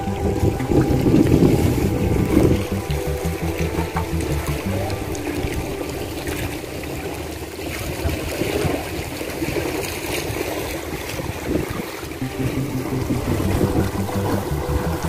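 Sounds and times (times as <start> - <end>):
wind on microphone: 0.0 - 3.7, 4.9 - 15.0
sea washing against concrete: 0.0 - 15.0.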